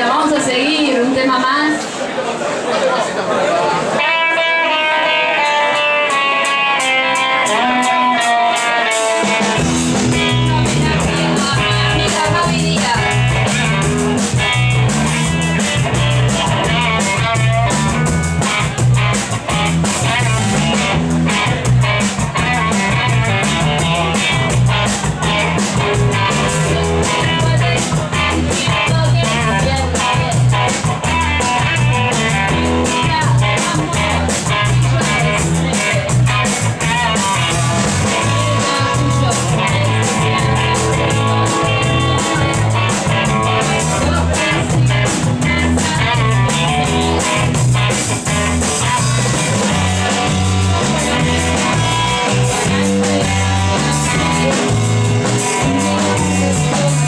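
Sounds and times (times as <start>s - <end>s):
live band playing: 0.0s - 2.0s, 3.7s - 57.0s
guitar line: 3.7s - 57.0s
drums: 3.8s - 57.0s.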